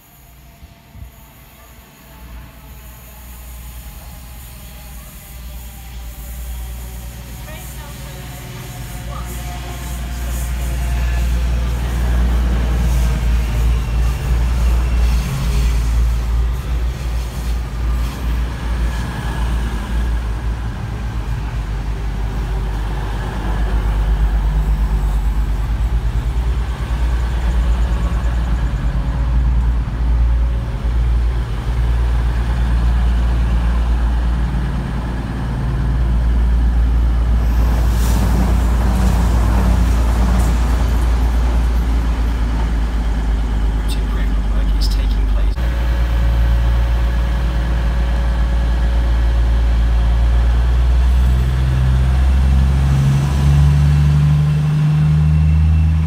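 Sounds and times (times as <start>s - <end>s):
diesel train engine rumbling: 0.0s - 56.0s.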